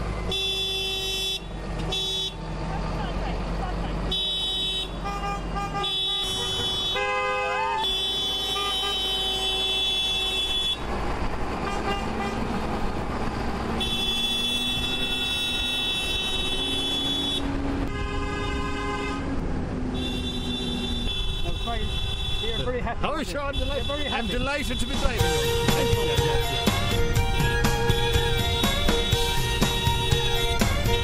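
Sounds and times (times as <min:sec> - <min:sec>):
low engine rumble: 0:00.0 - 0:06.8, 0:10.4 - 0:31.0
vehicle horns honking: 0:00.2 - 0:02.4, 0:03.0 - 0:10.8, 0:11.6 - 0:12.6, 0:13.7 - 0:31.0.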